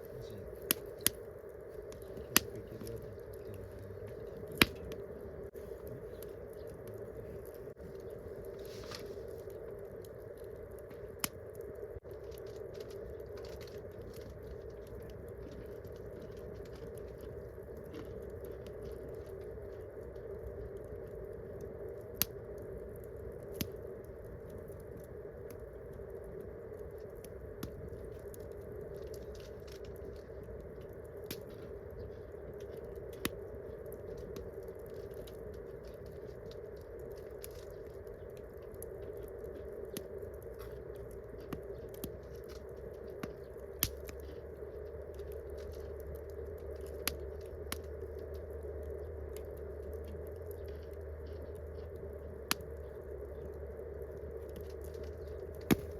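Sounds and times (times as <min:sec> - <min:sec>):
campfire crackling and popping: 0:00.0 - 0:55.9
faint low hum: 0:00.0 - 0:55.9.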